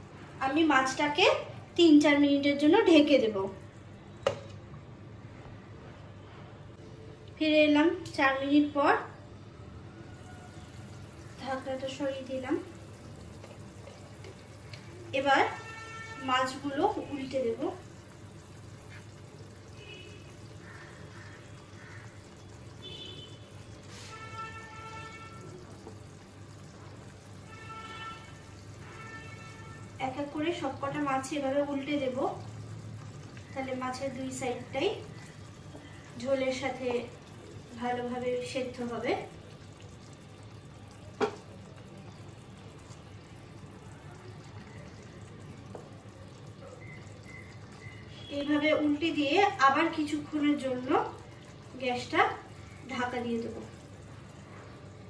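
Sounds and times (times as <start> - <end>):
curry simmering in a frying pan: 0.0 - 5.0, 8.1 - 55.0.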